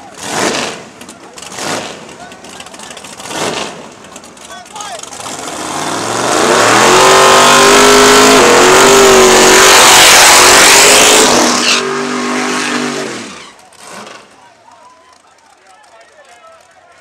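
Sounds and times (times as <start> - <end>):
drag car engine revving: 0.0 - 14.5.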